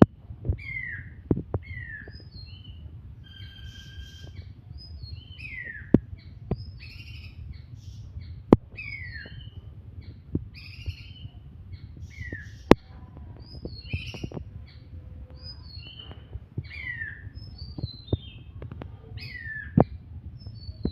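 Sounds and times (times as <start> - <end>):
songbird whistling and chirping: 0.5 - 12.8, 13.4 - 18.6, 19.2 - 20.9.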